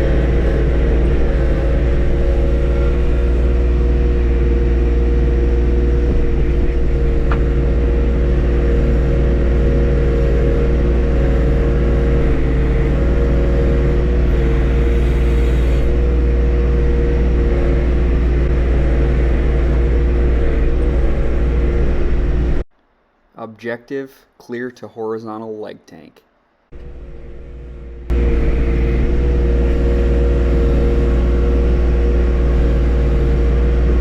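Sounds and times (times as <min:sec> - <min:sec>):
tractor diesel engine running: 0:00.0 - 0:22.6, 0:26.7 - 0:34.0.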